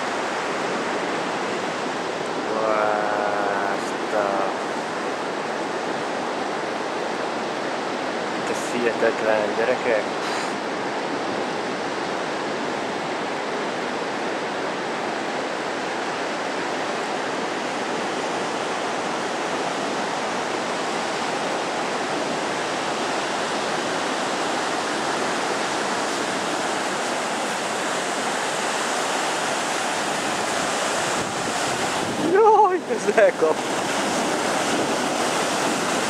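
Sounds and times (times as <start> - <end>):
surf breaking on beach: 0.0 - 6.9, 7.8 - 36.0.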